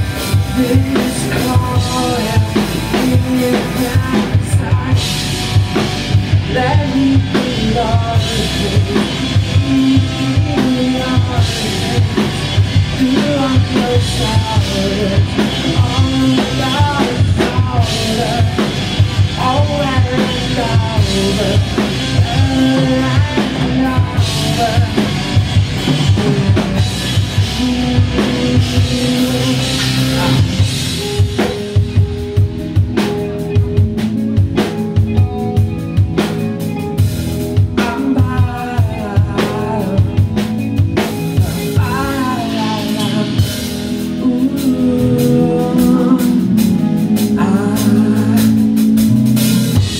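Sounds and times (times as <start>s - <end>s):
drum kit: 0.0s - 49.9s
rock band playing: 0.0s - 49.9s.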